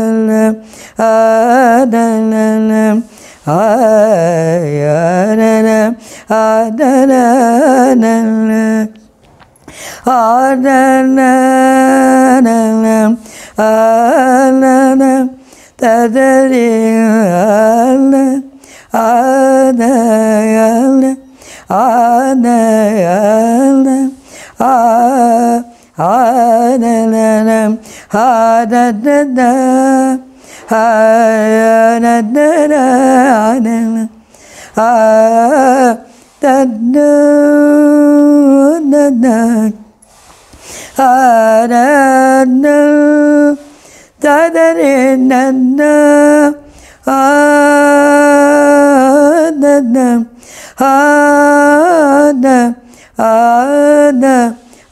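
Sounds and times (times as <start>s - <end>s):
woman singing unaccompanied: 0.0s - 9.1s, 10.0s - 40.0s, 40.8s - 54.9s.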